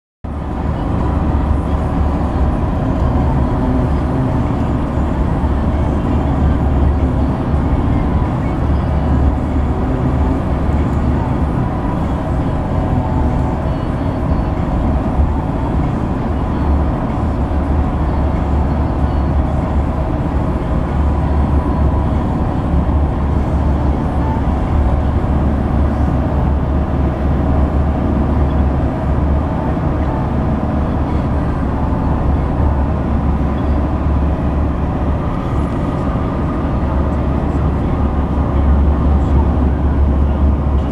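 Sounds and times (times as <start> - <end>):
car road and wind rumble: 0.2 - 40.9.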